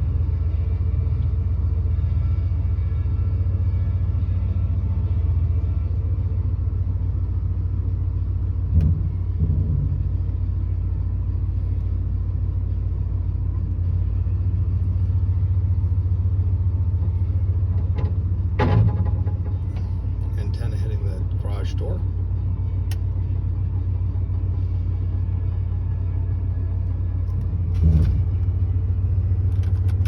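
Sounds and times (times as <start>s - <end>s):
pickup truck engine rumbling: 0.0s - 30.0s.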